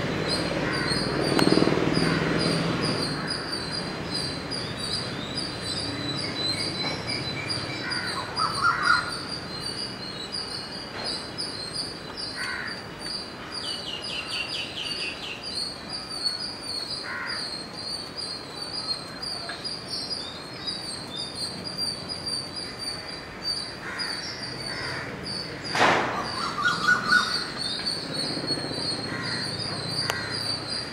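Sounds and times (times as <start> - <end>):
birds chirping rapidly: 0.0 - 30.9
lower bird calls: 0.1 - 30.9.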